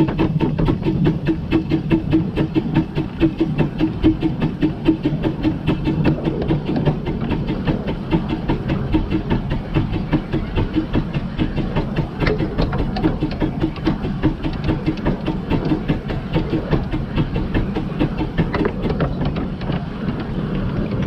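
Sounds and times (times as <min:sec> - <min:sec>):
steam locomotive exhaust beating: 0:00.0 - 0:21.0.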